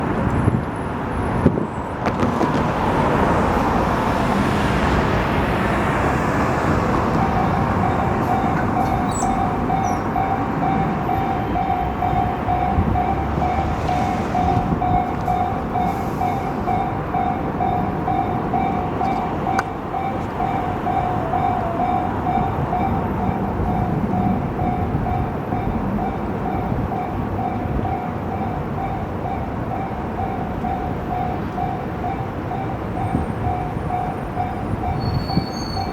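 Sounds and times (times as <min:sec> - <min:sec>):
road traffic noise: 0:00.0 - 0:35.9
level crossing alarm bell: 0:05.7 - 0:35.9.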